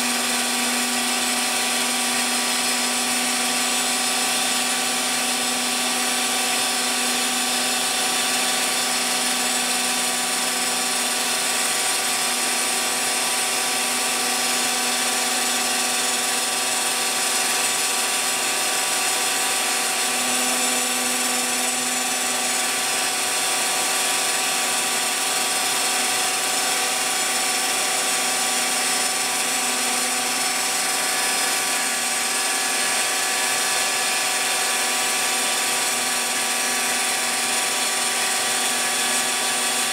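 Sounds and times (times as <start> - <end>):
cnc mill spindle cutting: 0.0 - 39.9.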